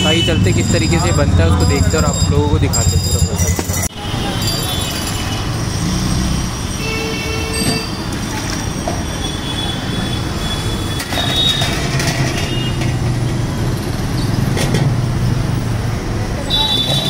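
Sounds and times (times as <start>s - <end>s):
passing motorbikes and rickshaws: 0.0s - 17.0s.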